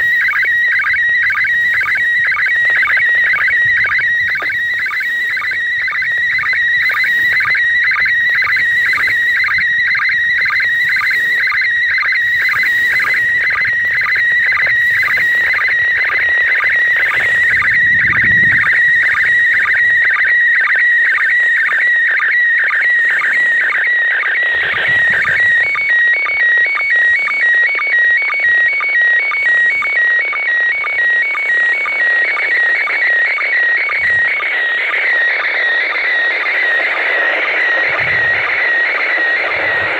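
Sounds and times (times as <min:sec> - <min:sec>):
warbling radio image signal: 0:00.0 - 0:39.9.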